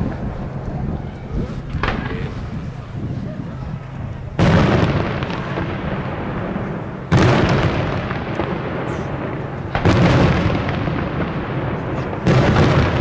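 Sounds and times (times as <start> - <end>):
firework shells bursting with echo: 0.0 - 13.0.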